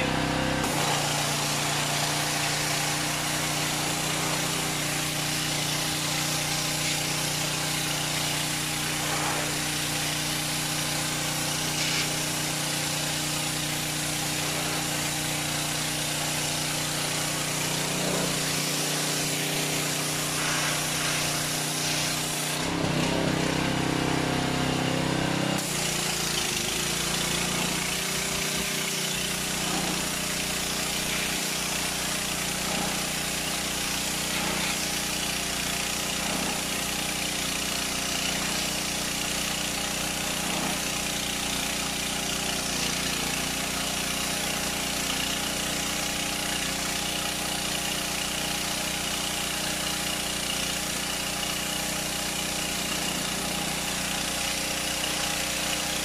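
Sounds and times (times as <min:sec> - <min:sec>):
high-pressure spray hissing: 0:00.0 - 0:56.0.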